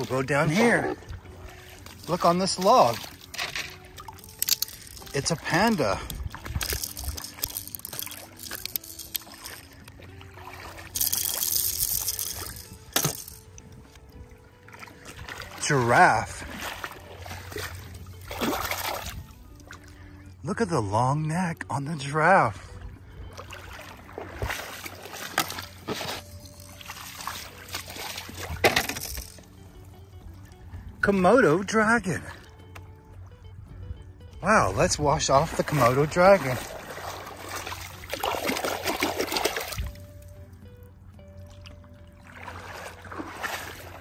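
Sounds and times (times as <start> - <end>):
soft background music: 0.0 - 44.0
water splashing and sloshing: 0.0 - 44.0.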